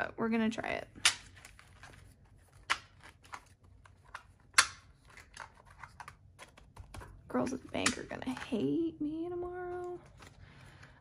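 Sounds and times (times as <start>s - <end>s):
paper rustling: 1.2s - 8.7s, 9.6s - 11.0s.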